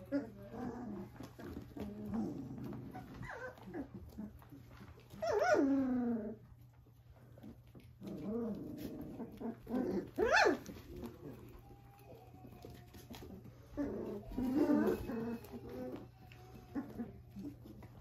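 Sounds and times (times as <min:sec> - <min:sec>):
puppy yelping: 0:00.0 - 0:06.4, 0:08.9 - 0:11.7, 0:12.6 - 0:18.0
puppies whining: 0:00.0 - 0:18.0.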